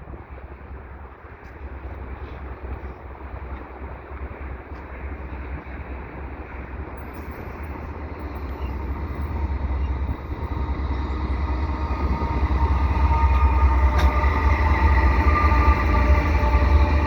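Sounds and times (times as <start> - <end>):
diesel locomotive rumble: 0.0 - 17.0.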